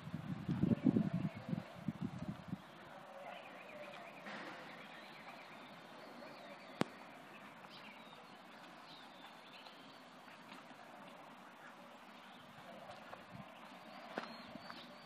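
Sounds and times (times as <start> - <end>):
distant birds chirping: 2.5 - 15.0.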